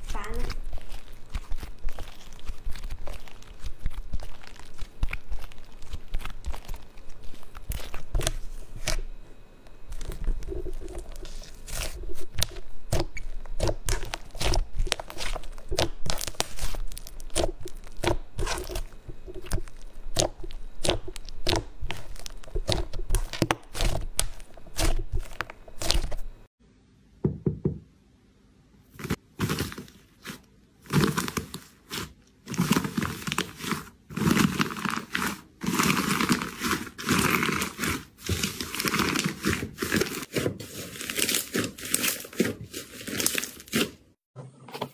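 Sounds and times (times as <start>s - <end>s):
slime crinkly crackling: 0.0s - 9.2s, 9.8s - 26.4s, 28.9s - 44.2s.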